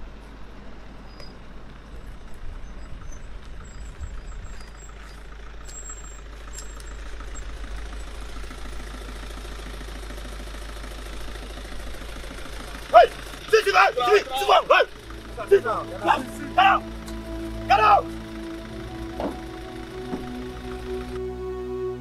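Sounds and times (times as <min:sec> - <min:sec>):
pickup truck engine running: 0:01.6 - 0:22.0.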